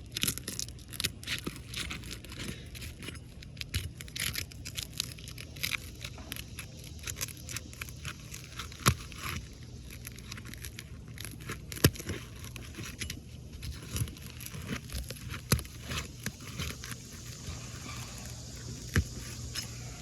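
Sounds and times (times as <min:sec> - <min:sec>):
shingle crackling and tearing: 0:00.0 - 0:20.0.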